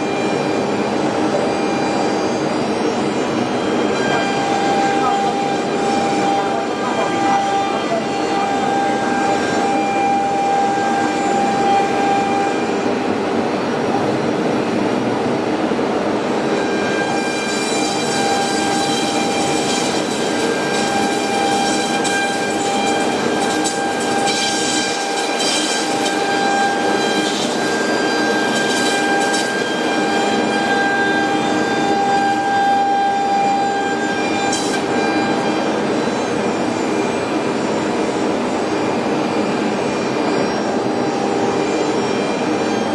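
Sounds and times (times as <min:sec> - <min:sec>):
router machine whine: 0:00.0 - 0:42.9.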